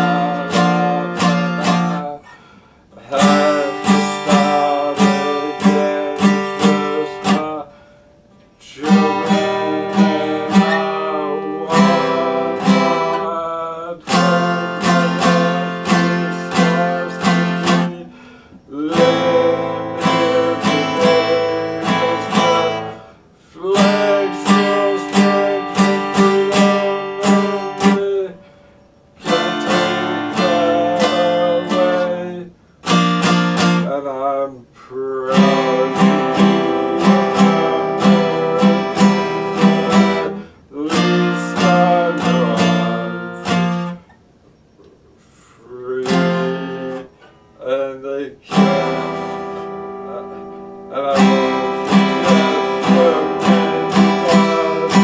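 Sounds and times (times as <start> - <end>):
man singing: 0.0 - 7.8, 8.5 - 28.5, 29.2 - 44.0, 45.2 - 55.0
acoustic guitar strumming: 0.0 - 55.0.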